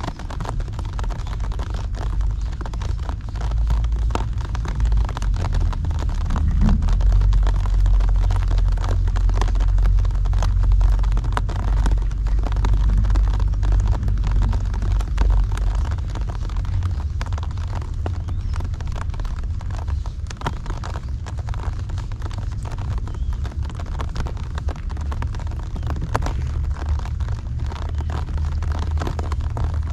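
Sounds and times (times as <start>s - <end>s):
heavy rain patter: 0.0s - 29.9s
low rumble: 0.0s - 29.9s.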